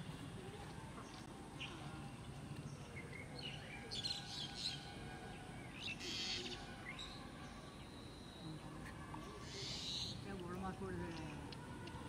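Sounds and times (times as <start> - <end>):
birds chirping and trilling: 1.0 - 12.0.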